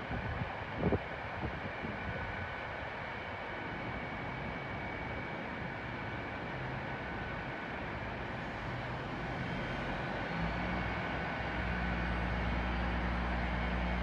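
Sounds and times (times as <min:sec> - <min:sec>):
deep train hum: 0:00.0 - 0:14.0.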